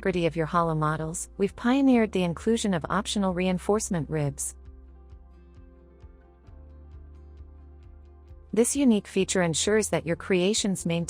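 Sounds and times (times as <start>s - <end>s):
steady bass: 0.0s - 11.0s.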